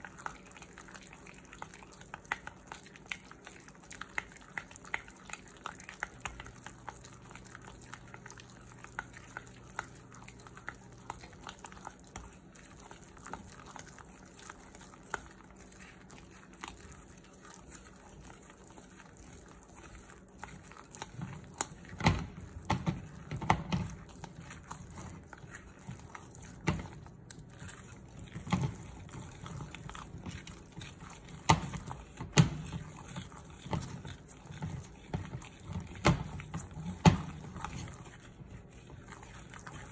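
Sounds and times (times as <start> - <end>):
chopsticks stirring wet batter: 0.0 - 39.9.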